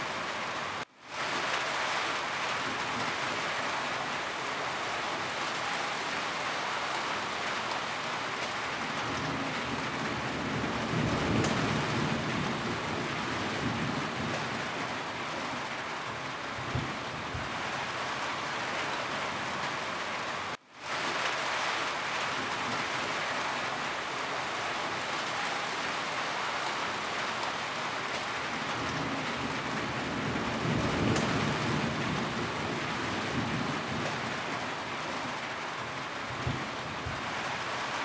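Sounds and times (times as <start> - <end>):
heavy rain on a roof: 0.0 - 38.0.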